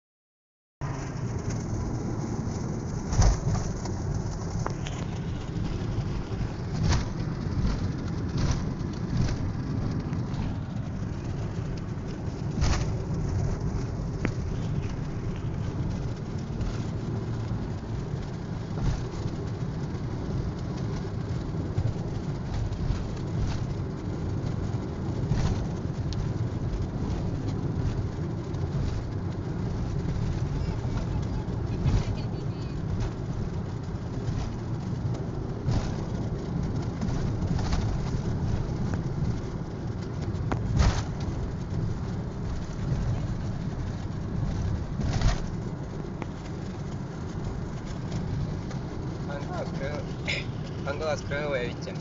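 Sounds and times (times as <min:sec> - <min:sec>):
vehicle engine rumble: 0:00.8 - 0:52.0.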